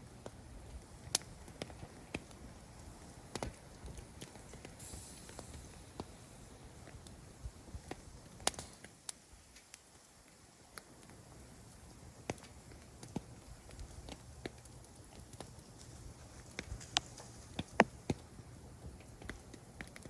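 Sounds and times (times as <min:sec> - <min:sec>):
campfire popping: 0:00.0 - 0:20.0
fire rustle: 0:00.0 - 0:20.0.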